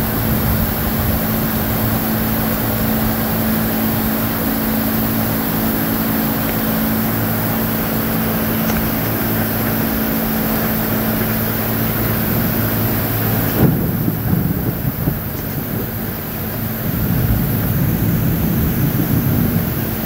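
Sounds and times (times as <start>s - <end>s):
heavy rain pouring: 0.0s - 20.0s
low engine hum: 0.0s - 20.0s.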